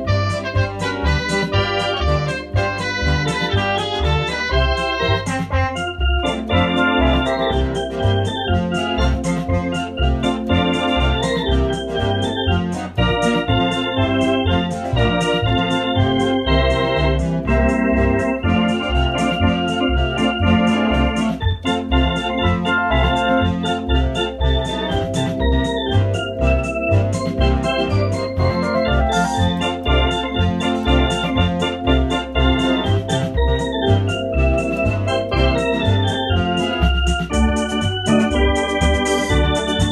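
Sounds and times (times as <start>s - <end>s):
electronic organ playing: 0.0s - 39.9s.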